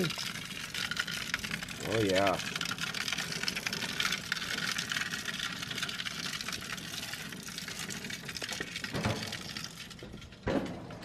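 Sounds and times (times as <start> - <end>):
fish sizzling in oil: 0.0 - 10.3.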